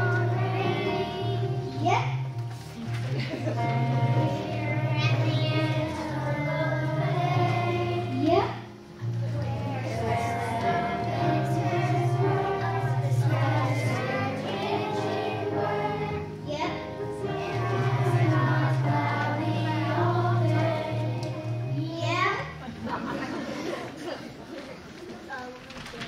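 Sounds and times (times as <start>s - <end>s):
children's choir singing: 0.0s - 2.0s, 2.6s - 21.8s
instrumental accompaniment: 0.0s - 23.8s.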